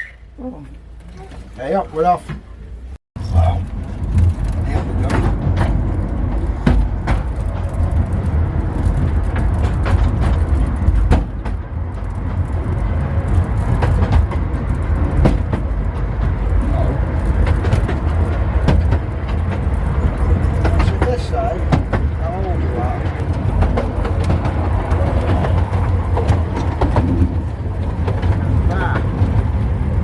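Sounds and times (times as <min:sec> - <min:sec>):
miniature train rumbling on track: 0:00.0 - 0:30.0
sharp clicks and knocks: 0:03.6 - 0:30.0.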